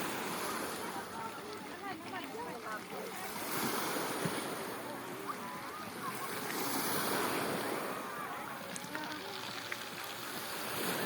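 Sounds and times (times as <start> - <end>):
surf washing onto shore: 0.0 - 11.0.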